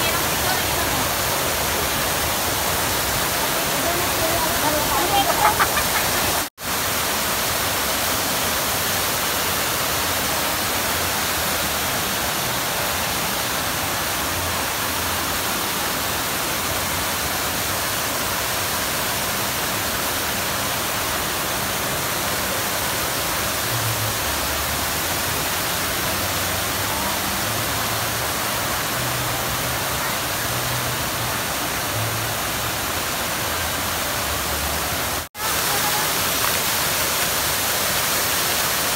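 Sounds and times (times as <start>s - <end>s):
fountain water splashing into pool: 0.0s - 38.9s.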